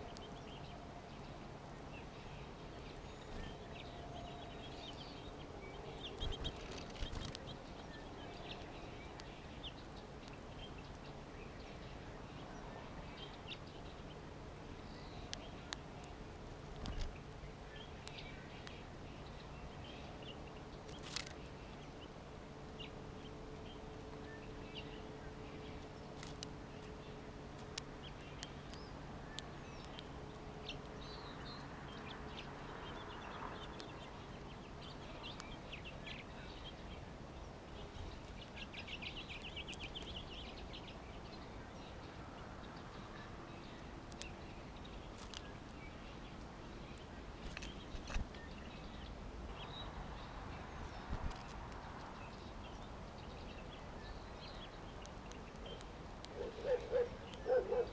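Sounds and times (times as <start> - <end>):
outdoor background hiss: 0.0 - 57.9
small songbirds chirping: 0.0 - 57.9.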